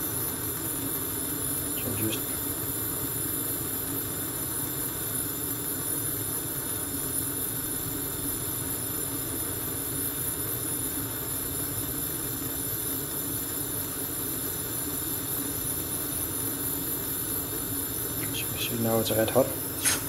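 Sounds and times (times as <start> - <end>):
gas burner hissing: 0.0 - 20.0.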